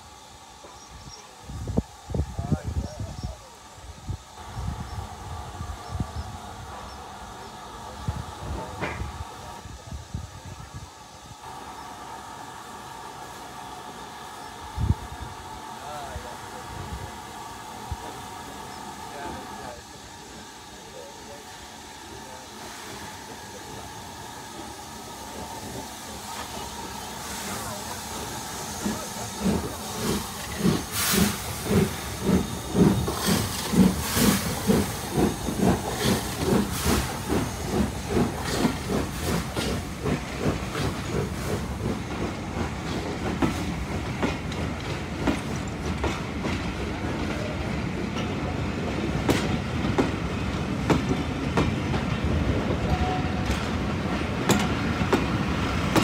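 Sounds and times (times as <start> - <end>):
train coaches rumbling: 0.0 - 56.0
steam locomotive exhaust chuffs: 3.9 - 56.0.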